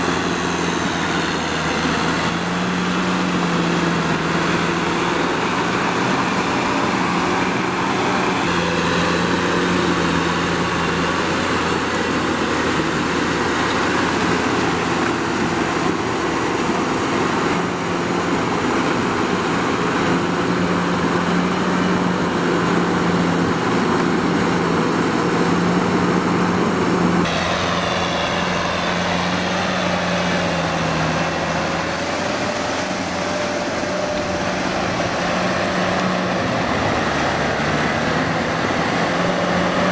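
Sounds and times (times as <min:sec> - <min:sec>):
tiller churning through mud: 0:00.0 - 0:39.9
tractor diesel engine running: 0:00.0 - 0:39.9.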